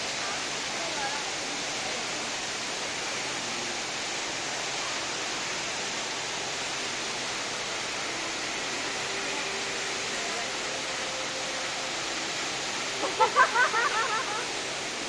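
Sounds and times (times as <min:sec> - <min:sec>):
rush of falling water: 0:00.0 - 0:15.0.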